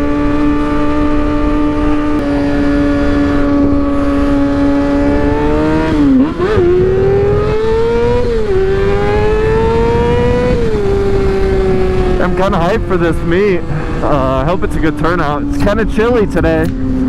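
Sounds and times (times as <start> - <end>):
motorcycle engine revving: 0.0 - 17.0
wind on microphone: 0.0 - 17.0.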